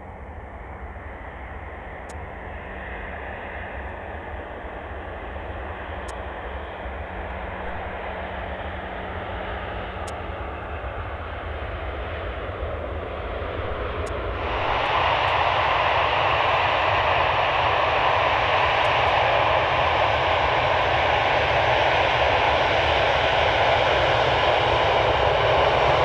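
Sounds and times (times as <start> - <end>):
jet engines rushing: 0.6 - 26.0.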